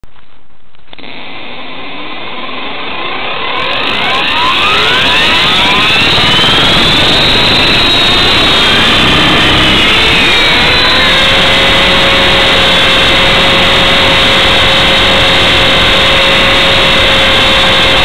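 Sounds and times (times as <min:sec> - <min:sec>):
rc helicopter rotor spooling up: 0:01.0 - 0:18.0.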